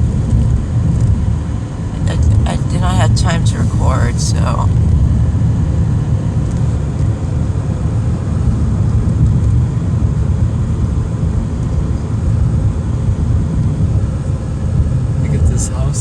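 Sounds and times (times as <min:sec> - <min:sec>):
road noise inside moving car: 0:00.0 - 0:16.0.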